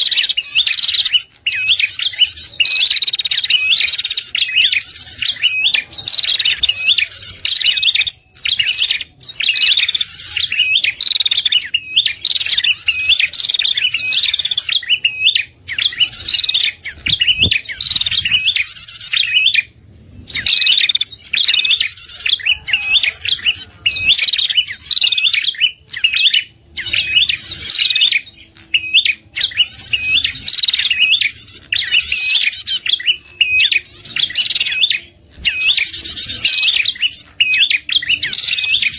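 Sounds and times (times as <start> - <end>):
bird chirping with high trills: 0.0 - 38.9.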